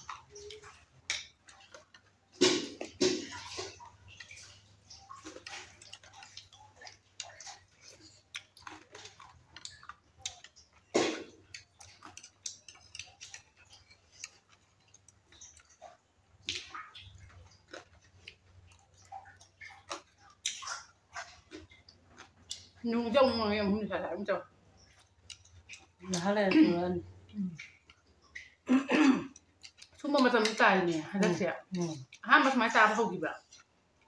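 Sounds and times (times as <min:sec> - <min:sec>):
chewing: 0:00.0 - 0:34.0.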